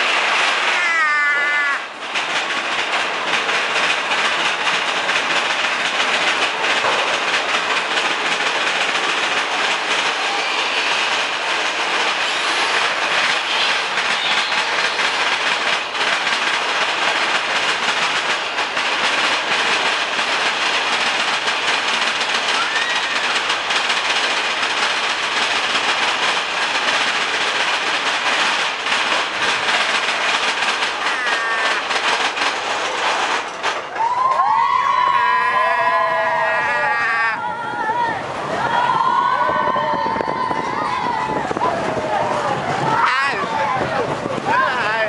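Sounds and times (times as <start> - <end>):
roller coaster rumbling on track: 0.0 - 45.0.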